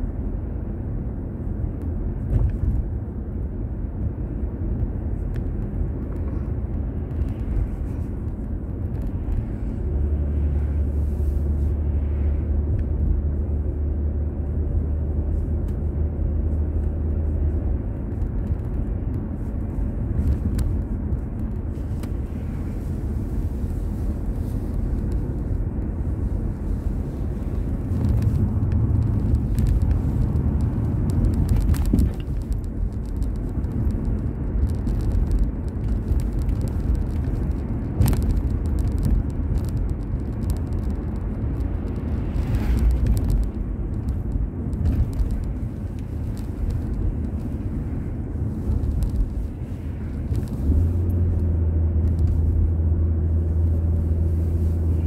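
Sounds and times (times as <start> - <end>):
car driving interior rumble: 0.0 - 55.0.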